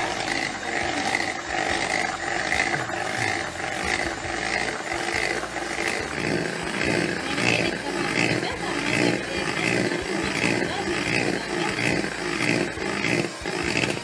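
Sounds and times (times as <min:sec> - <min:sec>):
electric hand mixer whining: 0:00.0 - 0:14.0.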